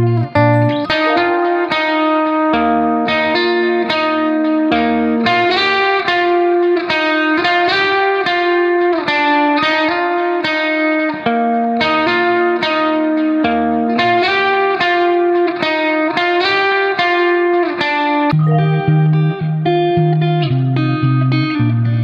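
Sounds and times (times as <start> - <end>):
plucked guitar melody: 0.0 - 22.0.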